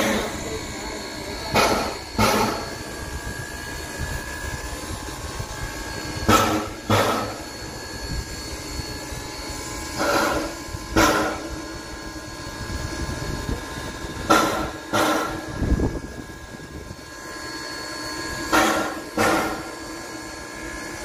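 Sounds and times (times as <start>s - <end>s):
steady background noise: 0.0s - 21.0s
steam locomotive exhaust bursts: 0.0s - 21.0s.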